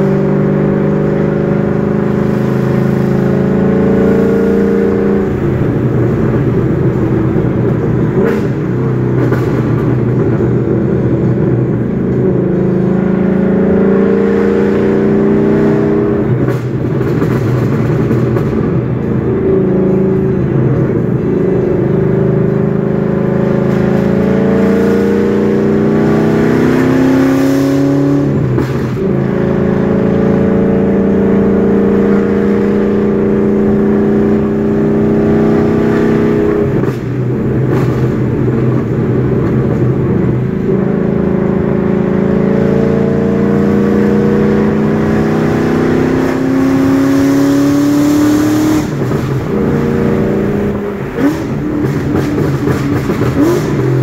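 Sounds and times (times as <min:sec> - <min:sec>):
loud deep car exhaust revving: 0:00.0 - 0:54.0.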